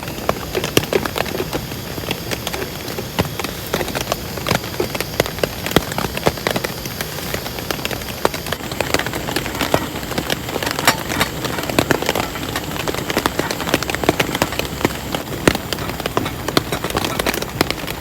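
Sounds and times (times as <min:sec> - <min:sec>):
rain drops tapping on surface: 0:00.0 - 0:18.0.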